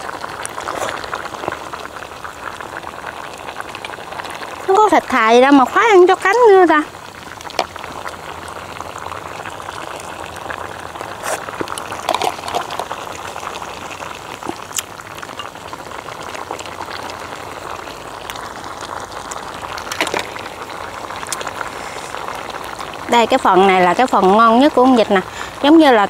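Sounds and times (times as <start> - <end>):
broth boiling: 0.0 - 26.0.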